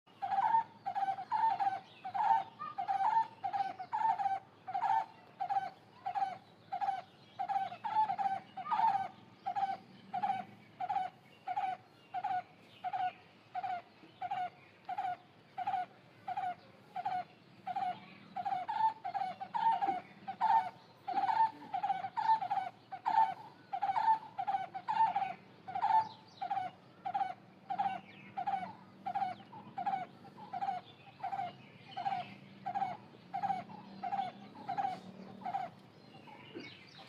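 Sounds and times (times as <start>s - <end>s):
bird calling: 0.1s - 37.0s.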